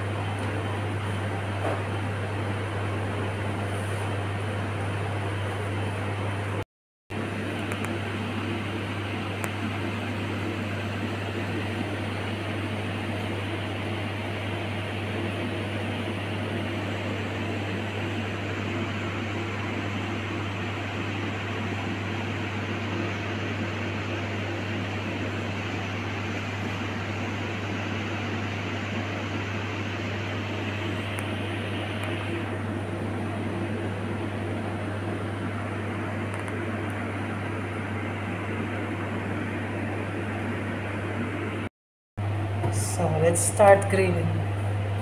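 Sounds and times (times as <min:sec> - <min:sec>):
fan-driven appliance humming: 0:00.0 - 0:45.0.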